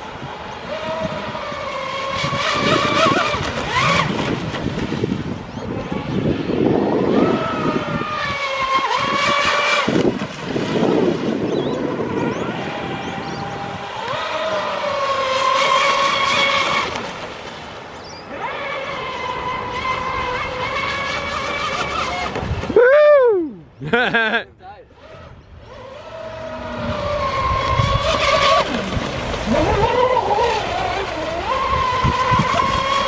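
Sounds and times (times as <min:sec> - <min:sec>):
rc boat motor whine: 0:00.0 - 0:23.8, 0:24.8 - 0:33.0.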